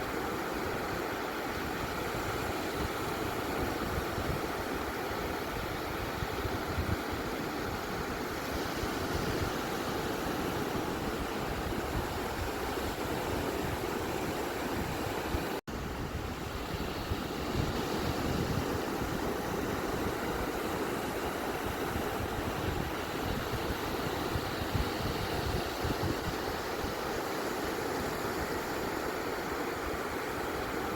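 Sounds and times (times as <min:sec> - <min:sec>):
ocean surf on a beach: 0:00.0 - 0:30.9.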